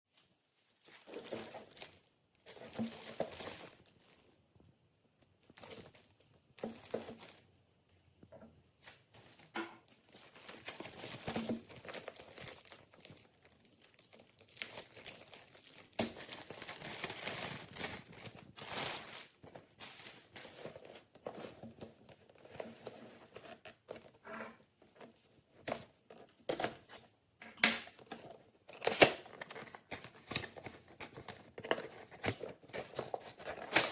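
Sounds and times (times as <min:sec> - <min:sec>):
packaging crinkling and rustling: 0:00.1 - 0:04.6, 0:05.2 - 0:07.5, 0:08.8 - 0:24.2, 0:27.9 - 0:33.9.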